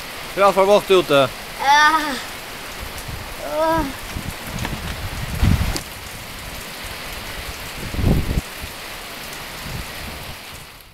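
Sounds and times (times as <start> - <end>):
heavy rain pouring: 0.0 - 10.9.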